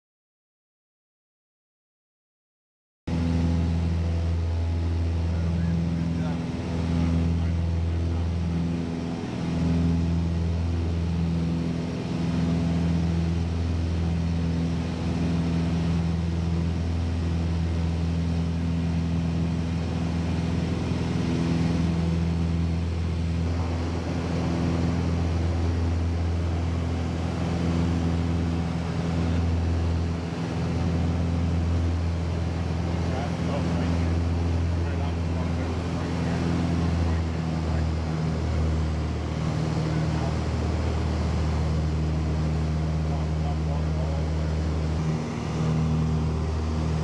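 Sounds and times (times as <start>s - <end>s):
light aircraft engine drone: 3.1s - 47.0s.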